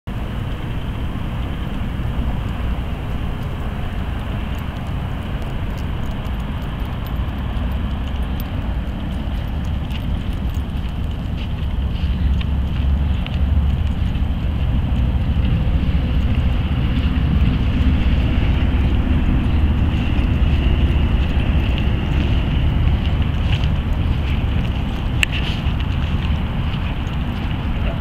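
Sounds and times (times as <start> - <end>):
wind buffeting microphone: 0.1 - 28.0.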